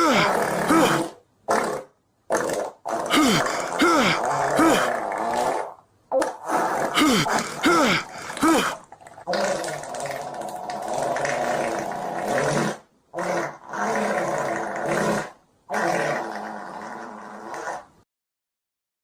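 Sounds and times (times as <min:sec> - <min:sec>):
stomach growling: 0:00.0 - 0:17.9.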